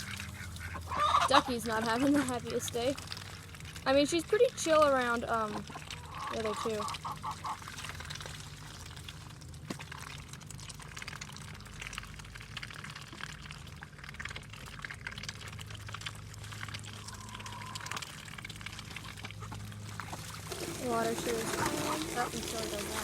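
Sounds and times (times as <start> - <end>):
water dripping: 0.0 - 23.0
water pouring and splashing: 0.0 - 23.0.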